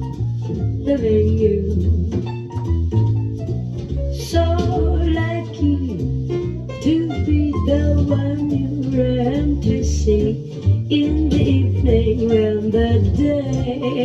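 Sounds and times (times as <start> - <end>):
walking bass line: 0.0 - 14.0.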